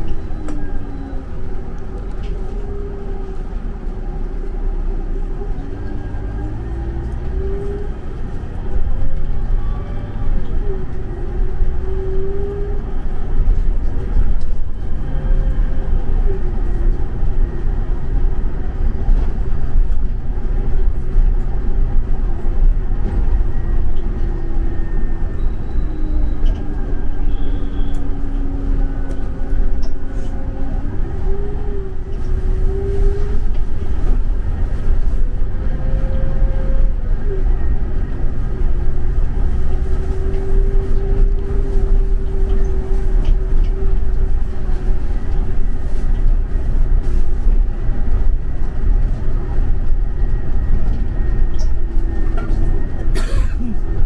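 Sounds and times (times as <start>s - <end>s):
coach engine and road rumble: 0.0s - 54.0s.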